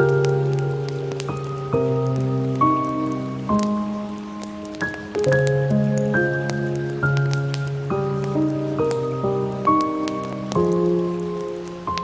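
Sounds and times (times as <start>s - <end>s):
gentle piano music: 0.0s - 12.0s
wood fire crackling: 0.0s - 12.0s.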